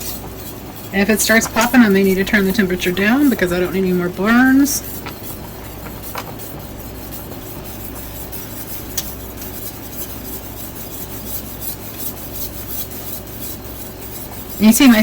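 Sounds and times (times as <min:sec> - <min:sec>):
spoon scraping in a pot: 0:00.0 - 0:15.0
syrup bubbling at a boil: 0:00.0 - 0:15.0.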